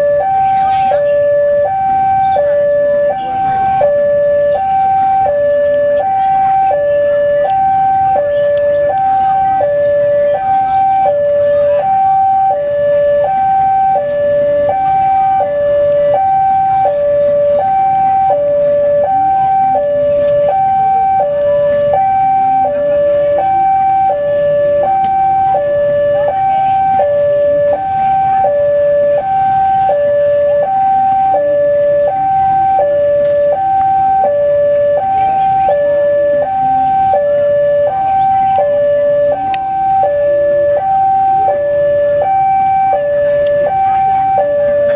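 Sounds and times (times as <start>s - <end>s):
level crossing alarm two-tone: 0.0s - 44.9s
street and market noise: 0.0s - 44.9s.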